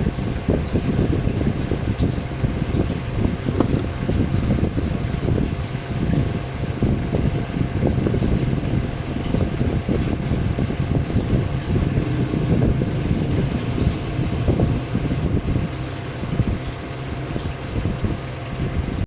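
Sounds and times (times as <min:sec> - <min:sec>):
motor hum and rumble: 0:00.0 - 0:19.0.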